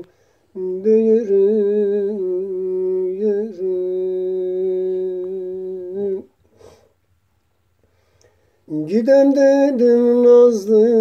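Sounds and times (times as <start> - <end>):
man singing unaccompanied: 0.0 - 6.5, 8.6 - 11.0.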